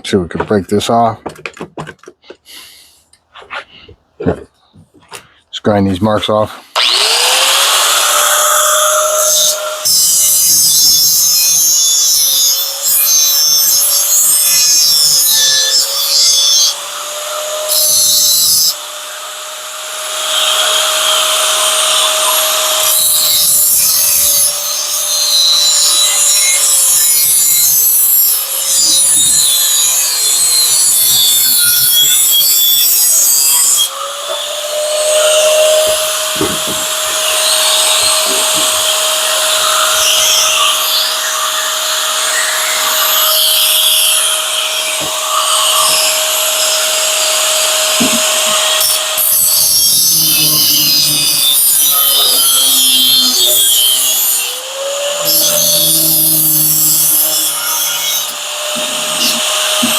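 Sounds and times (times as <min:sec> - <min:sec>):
angle grinder grinding metal: 0:06.6 - 0:59.9.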